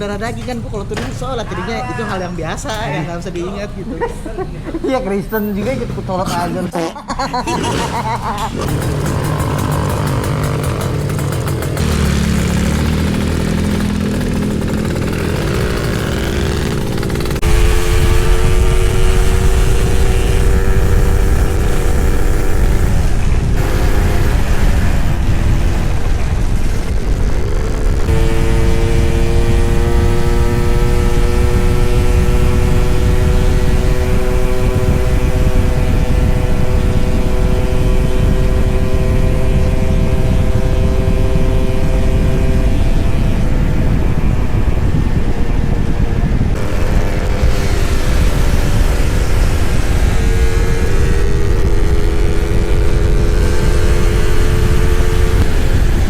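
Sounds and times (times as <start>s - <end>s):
two-stroke motorcycle engine revving: 7.2s - 56.0s
wind rumble on microphone: 8.6s - 56.0s.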